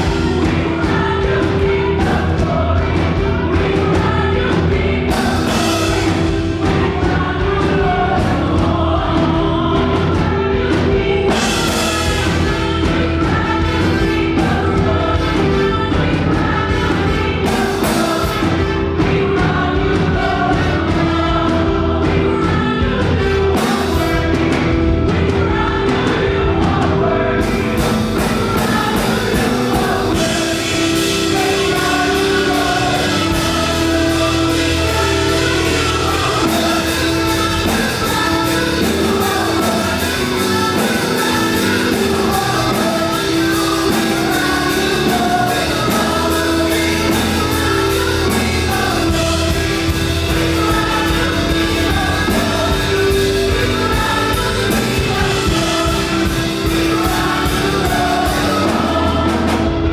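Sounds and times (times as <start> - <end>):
singers with a band: 0.0 - 59.9.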